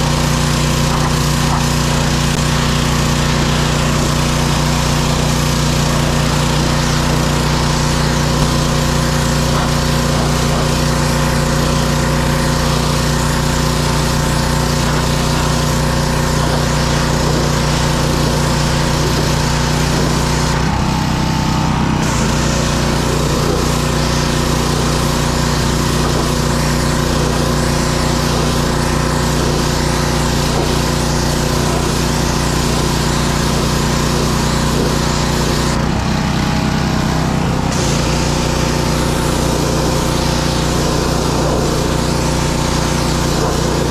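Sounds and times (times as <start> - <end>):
pressure washer engine running: 0.0 - 43.9
water jet hissing on wood: 0.0 - 43.9.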